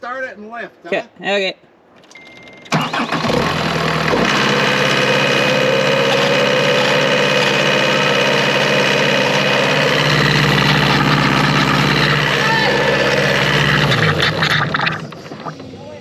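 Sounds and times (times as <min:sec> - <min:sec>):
skid steer engine idling: 0:02.8 - 0:15.7.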